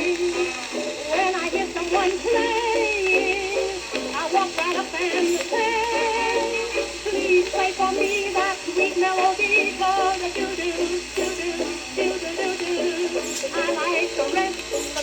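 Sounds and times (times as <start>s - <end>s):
old record playing a tune: 0.0s - 15.0s.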